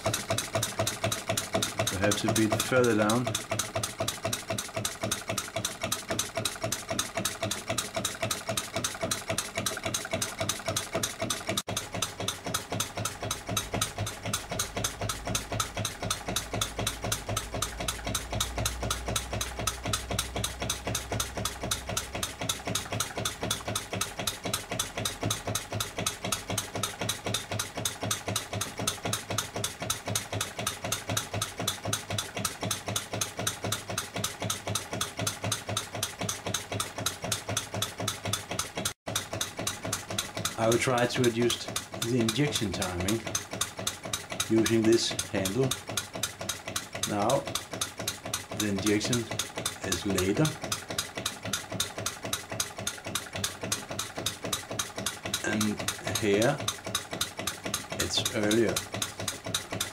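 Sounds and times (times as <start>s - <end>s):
model diesel engine running: 0.0s - 59.9s.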